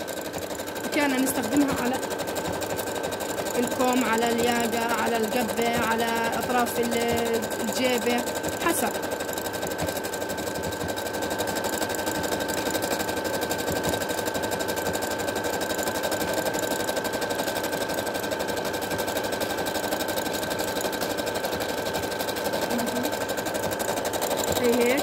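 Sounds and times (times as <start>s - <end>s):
sewing machine motor whine: 0.0s - 25.0s.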